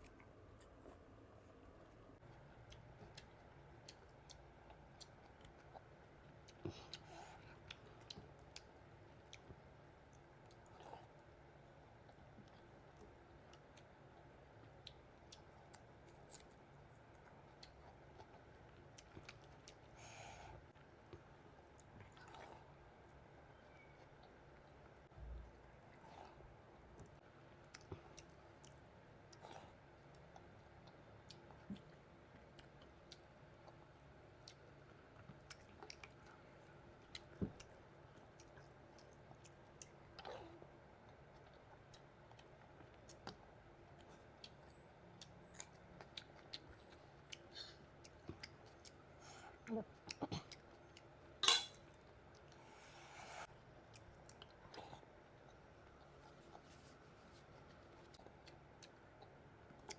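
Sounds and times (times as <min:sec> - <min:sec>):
faint chewing: 0:00.0 - 0:59.9.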